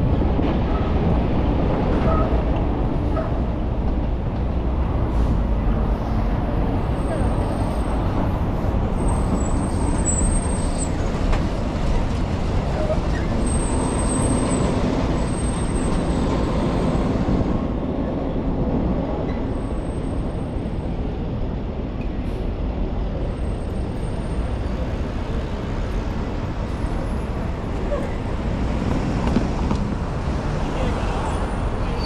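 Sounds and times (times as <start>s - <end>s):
city street traffic rumble: 0.0s - 32.0s.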